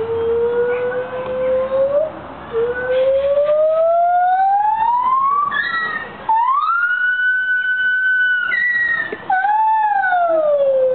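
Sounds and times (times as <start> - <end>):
gibbon whooping: 0.0 - 10.9.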